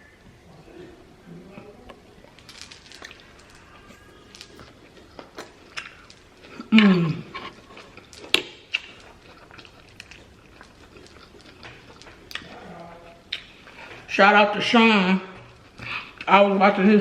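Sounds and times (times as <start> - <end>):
wet chewing: 0.8 - 16.6.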